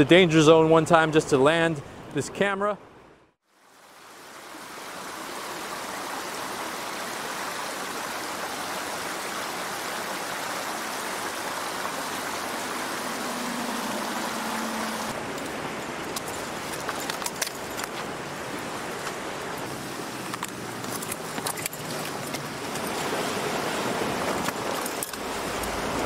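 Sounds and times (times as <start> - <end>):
water rushing over rocks: 3.7 - 26.0.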